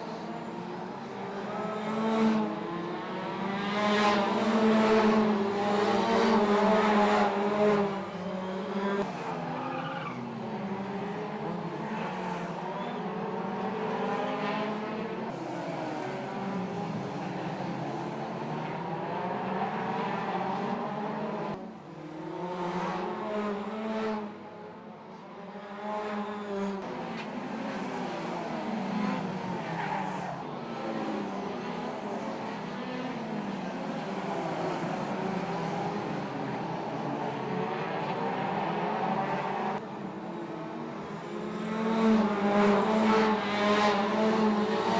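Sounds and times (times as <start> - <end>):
race car engines revving: 0.0 - 44.9.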